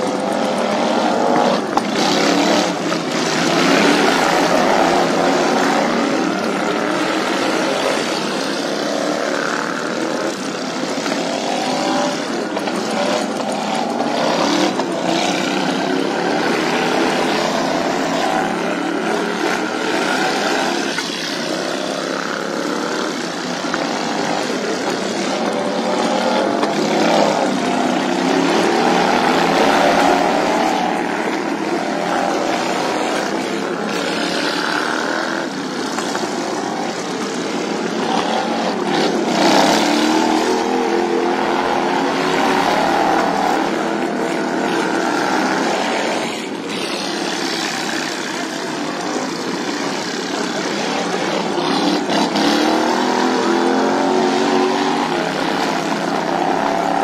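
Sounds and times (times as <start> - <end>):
racing lawn mower engines: 0.0 - 57.0.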